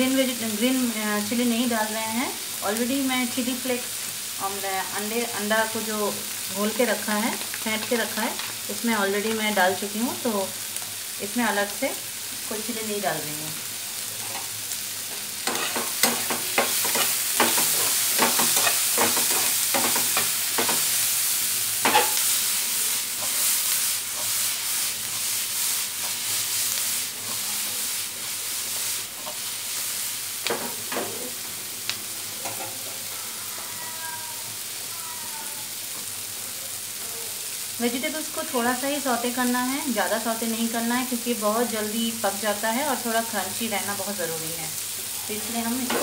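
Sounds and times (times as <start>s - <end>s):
vegetables sizzling in oil: 0.0s - 46.0s.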